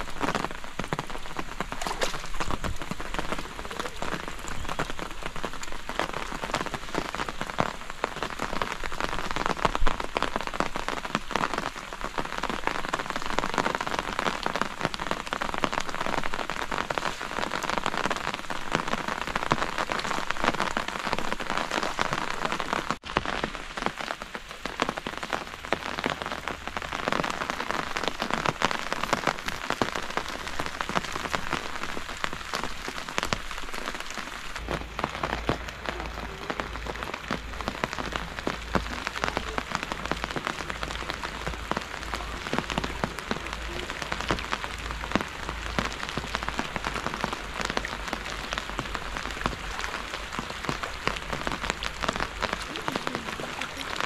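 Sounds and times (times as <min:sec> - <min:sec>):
steady rain with patter of drops: 0:00.0 - 0:54.0.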